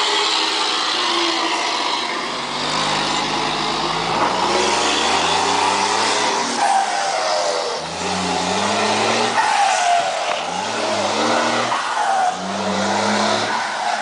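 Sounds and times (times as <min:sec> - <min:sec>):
diesel truck engine accelerating: 0:00.0 - 0:14.0.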